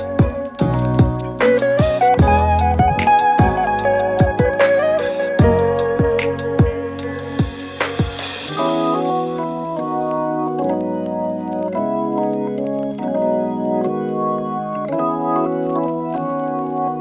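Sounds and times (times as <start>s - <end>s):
organ-like keyboard chords: 0.0s - 17.0s.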